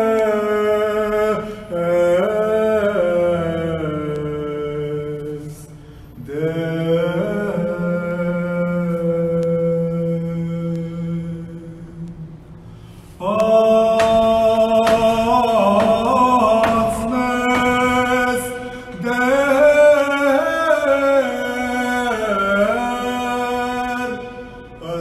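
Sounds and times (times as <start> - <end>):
man chanting a hymn: 0.0 - 12.1, 13.2 - 25.0.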